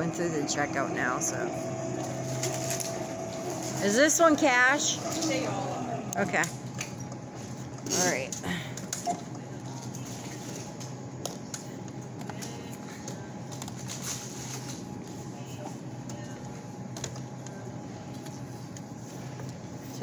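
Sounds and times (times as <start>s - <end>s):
low hum: 0.0s - 19.6s.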